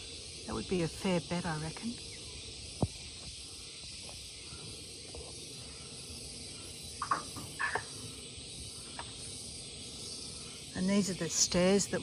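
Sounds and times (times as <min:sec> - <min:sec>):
insect chorus hissing: 0:00.0 - 0:12.0.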